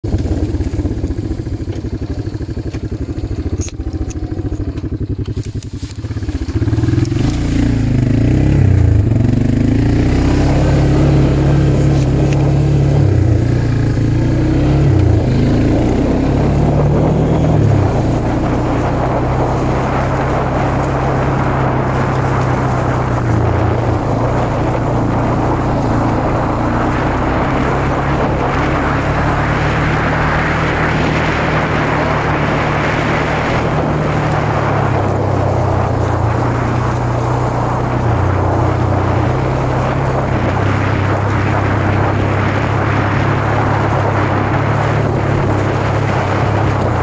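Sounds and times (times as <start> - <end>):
atv engine running: 0.0 - 47.0.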